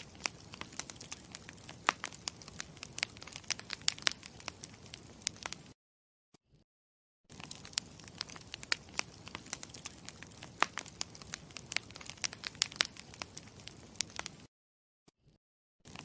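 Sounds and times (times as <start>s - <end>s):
campfire crackling: 0.0s - 5.8s, 7.3s - 14.5s.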